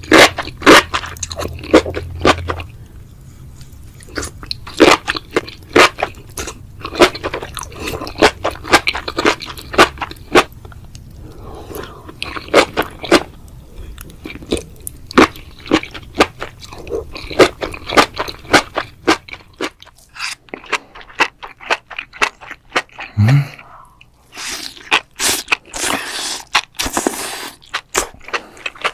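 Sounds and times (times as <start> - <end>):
crunchy chewing: 0.0 - 2.8, 3.6 - 23.2, 24.0 - 28.9.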